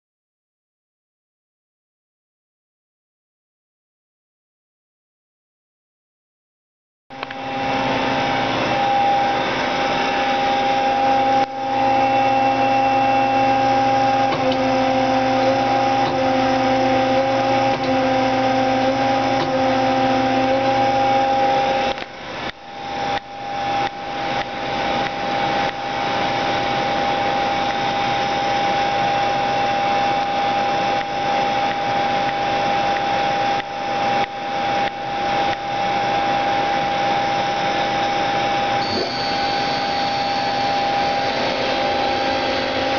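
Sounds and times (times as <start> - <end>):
lathe machine hum and whine: 7.1 - 42.9.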